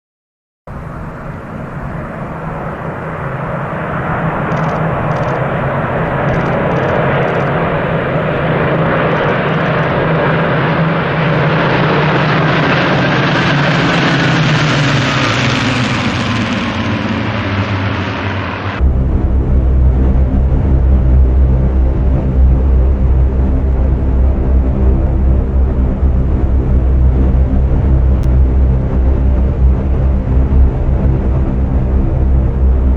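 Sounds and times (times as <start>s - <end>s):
propeller aircraft engines droning: 0.7s - 32.9s.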